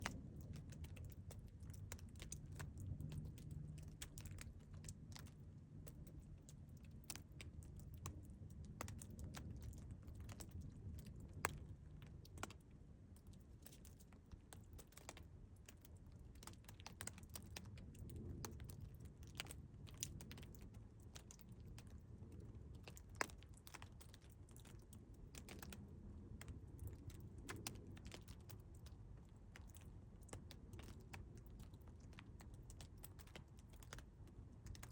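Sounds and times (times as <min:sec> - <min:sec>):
low steady rumble: 0:00.0 - 0:34.9.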